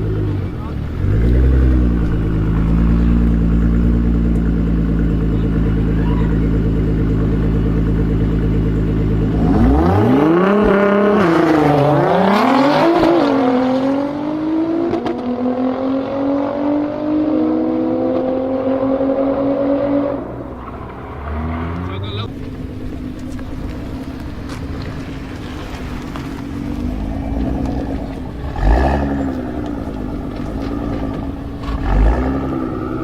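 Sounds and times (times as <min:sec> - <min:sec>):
car accelerating through gear shifts: 0:00.0 - 0:33.0
sports car engine revving: 0:00.0 - 0:33.0.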